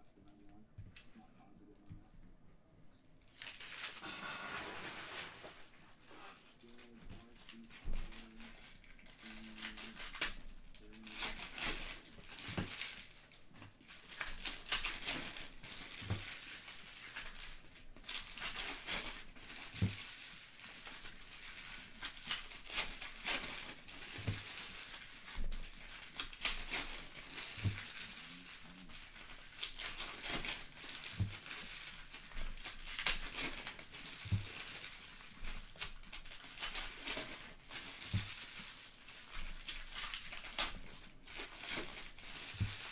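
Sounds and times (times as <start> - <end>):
wrappers crinkling and tearing: 3.2 - 42.9.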